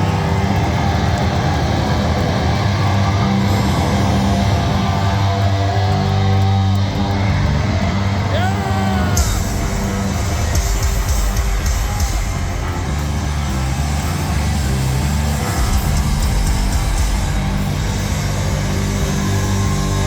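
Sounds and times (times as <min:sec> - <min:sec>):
heavy low bass notes: 0:00.0 - 0:20.0
live hard rock band: 0:00.0 - 0:20.0.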